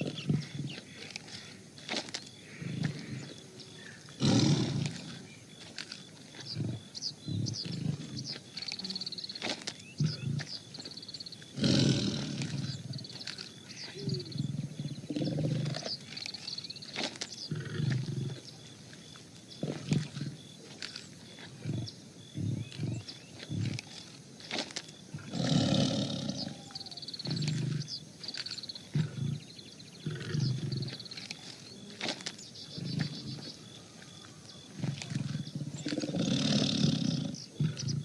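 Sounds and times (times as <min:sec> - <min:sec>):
tiger growling: 0:00.0 - 0:38.0.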